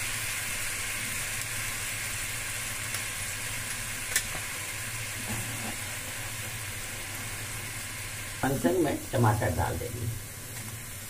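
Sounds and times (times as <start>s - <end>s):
curry simmering and sizzling: 0.0s - 11.0s.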